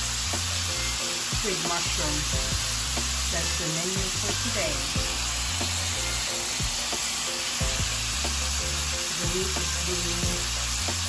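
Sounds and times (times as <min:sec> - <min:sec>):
background music: 0:00.0 - 0:11.0
beef sizzling in butter: 0:00.0 - 0:11.0.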